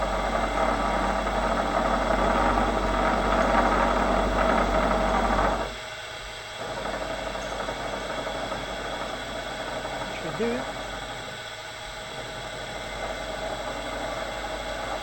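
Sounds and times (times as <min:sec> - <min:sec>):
machine humming: 0:00.0 - 0:15.0
milling machine cutting steel: 0:00.0 - 0:15.0.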